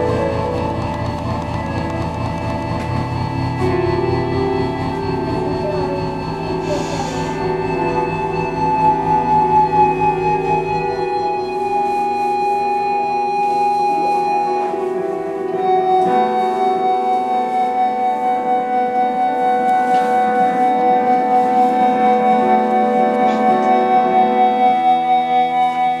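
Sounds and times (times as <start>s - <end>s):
folk ensemble playing slow chords: 0.0s - 26.0s.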